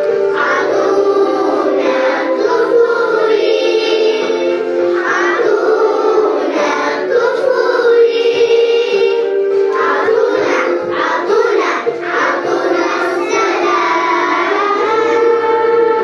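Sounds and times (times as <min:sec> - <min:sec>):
children singing in unison: 0:00.0 - 0:16.0.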